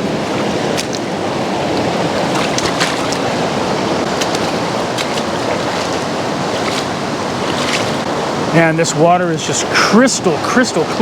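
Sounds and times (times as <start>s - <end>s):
river rushing over rapids: 0.0s - 11.0s
water splashes: 0.0s - 11.0s.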